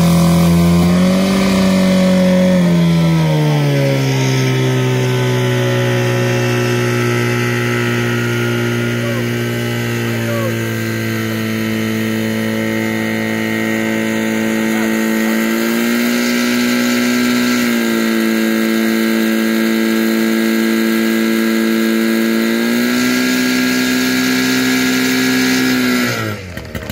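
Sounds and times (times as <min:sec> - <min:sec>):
pump engine running at high speed: 0:00.0 - 0:26.9.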